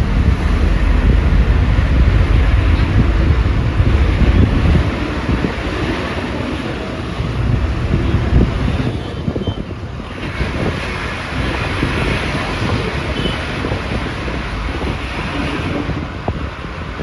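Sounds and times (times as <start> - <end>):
bus engine and road rumble: 0.0 - 17.0
wind buffeting microphone: 0.0 - 17.0.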